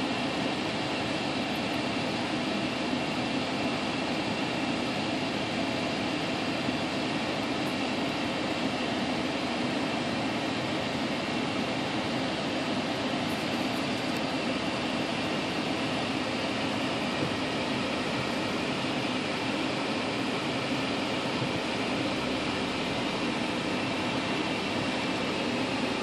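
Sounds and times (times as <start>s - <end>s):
mechanical hum and hiss: 0.0s - 26.0s.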